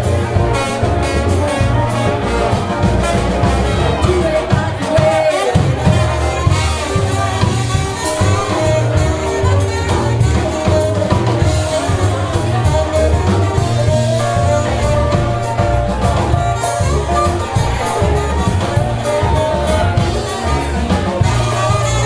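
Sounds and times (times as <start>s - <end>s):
low bass line: 0.0s - 5.0s, 5.6s - 22.0s
brass band playing: 0.0s - 22.0s
horns holding long notes: 0.0s - 22.0s
steady drum beat: 0.0s - 22.0s.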